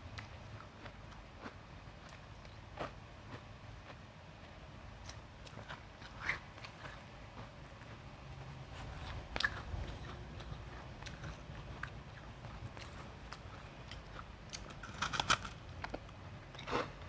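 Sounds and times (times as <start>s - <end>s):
ice being chewed: 0.1s - 17.0s.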